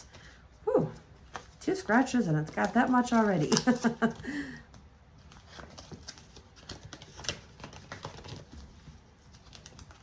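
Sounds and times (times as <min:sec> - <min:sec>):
hands handling paper and cards: 0:00.0 - 0:10.0.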